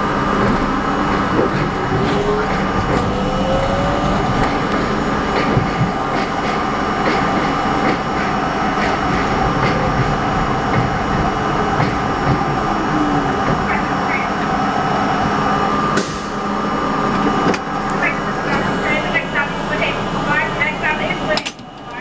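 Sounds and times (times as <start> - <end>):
rail clicks: 0.0 - 22.0
subway train wheels rumbling on rails: 0.0 - 22.0.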